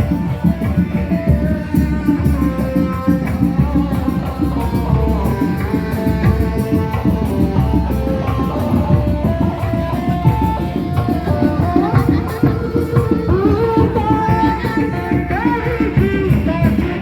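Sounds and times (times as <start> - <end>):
fast hand drumming: 0.0 - 17.0.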